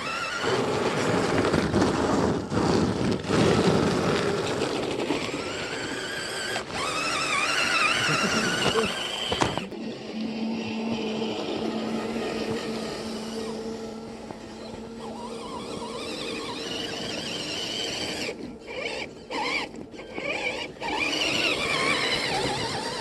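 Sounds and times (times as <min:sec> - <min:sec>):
toy truck electric motor whining: 0:00.0 - 0:23.0.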